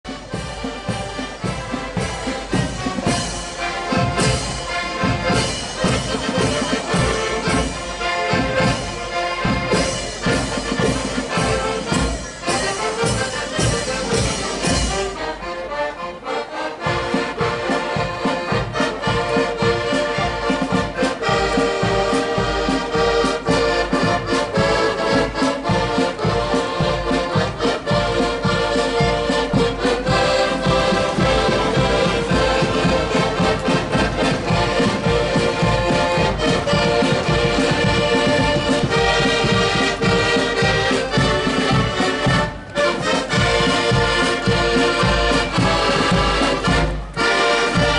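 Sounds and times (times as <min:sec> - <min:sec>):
accordion band playing a march: 0:00.0 - 0:47.9.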